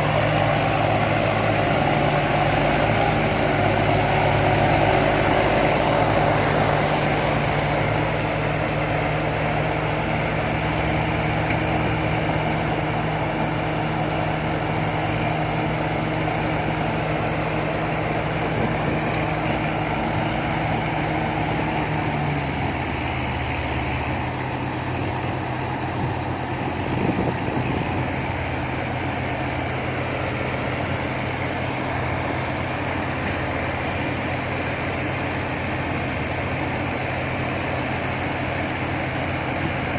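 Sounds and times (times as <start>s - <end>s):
combine harvester engine: 0.0s - 39.9s.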